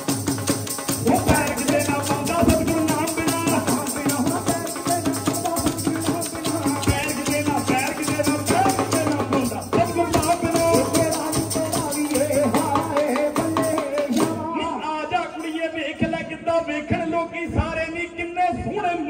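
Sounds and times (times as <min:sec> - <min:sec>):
rattling percussion with drum beat: 0:00.0 - 0:15.7
voices singing: 0:00.9 - 0:17.7.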